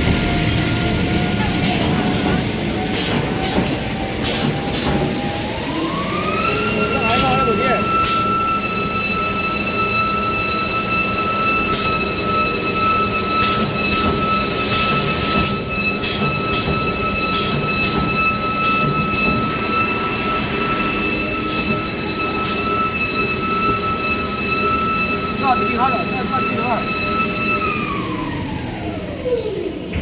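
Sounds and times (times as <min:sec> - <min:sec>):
machinery whining: 0:00.0 - 0:30.0.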